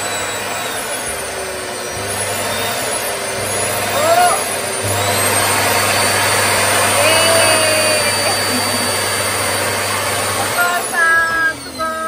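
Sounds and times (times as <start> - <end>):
vacuum cleaner whirring: 0.0 - 12.0.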